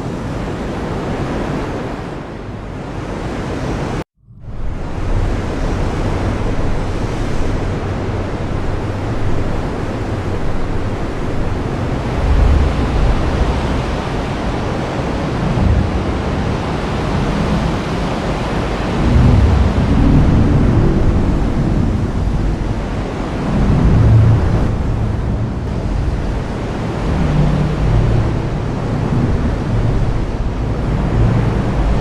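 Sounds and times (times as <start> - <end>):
low rumbles: 4.2 - 32.0.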